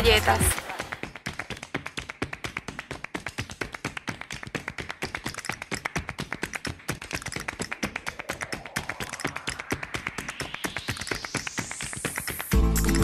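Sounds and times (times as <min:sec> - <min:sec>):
music with sharp percussive taps: 0:00.0 - 0:13.0.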